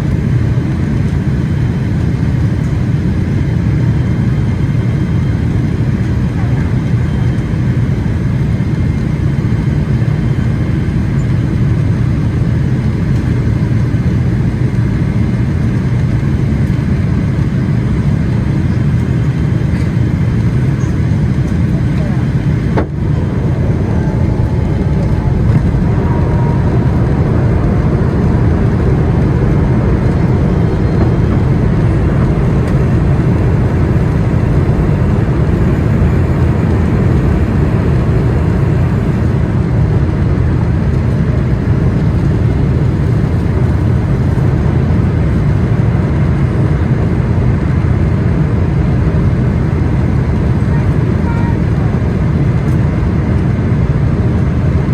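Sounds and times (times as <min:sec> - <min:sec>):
aircraft cabin rumble: 0:00.0 - 0:54.9.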